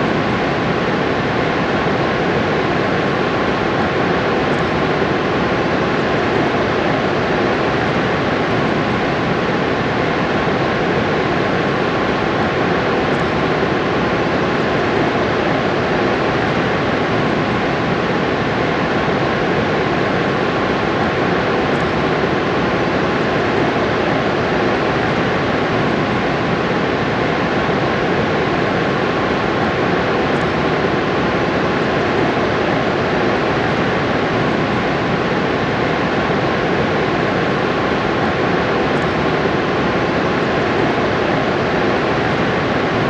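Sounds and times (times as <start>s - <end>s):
waterfall roar: 0.0s - 43.0s.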